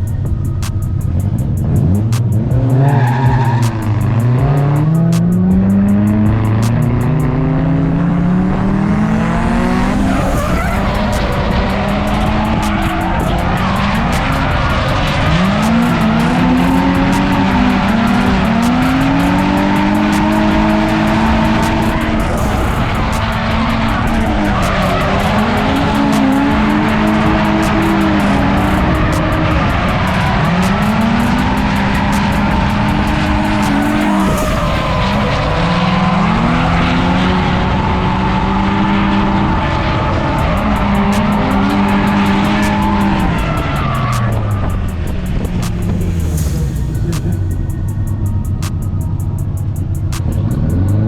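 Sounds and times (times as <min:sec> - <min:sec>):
car engines revving: 0:00.0 - 0:51.0
tires squealing and skidding: 0:00.0 - 0:51.0.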